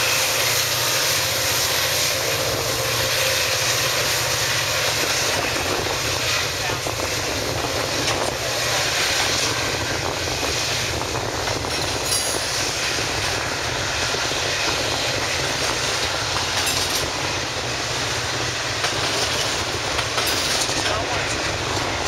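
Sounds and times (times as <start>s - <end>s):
diesel locomotive engines: 0.0s - 22.0s
train rolling: 0.0s - 22.0s.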